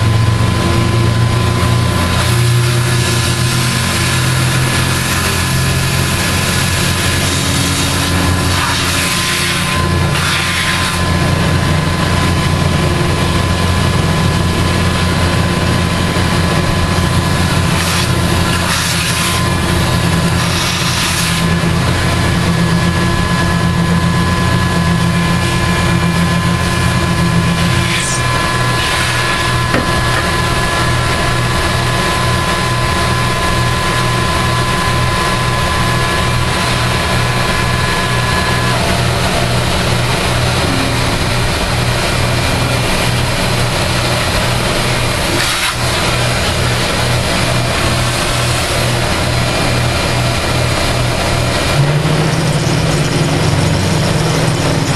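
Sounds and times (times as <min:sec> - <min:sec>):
cutter scraping metal: 0:00.0 - 0:54.9
milling machine motor hum: 0:00.0 - 0:54.9.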